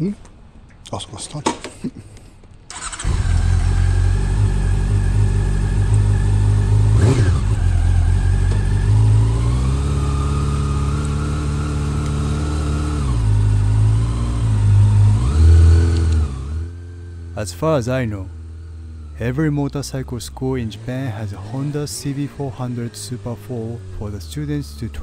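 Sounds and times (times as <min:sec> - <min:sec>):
motorcycle engine accelerating: 0:02.7 - 0:25.0.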